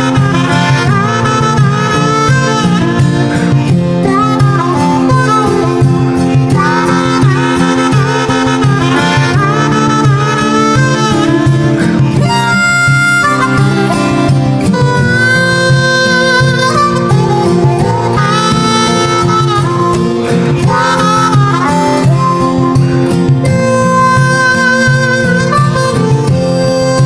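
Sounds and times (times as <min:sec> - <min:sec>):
background music melody: 0:00.0 - 0:27.0.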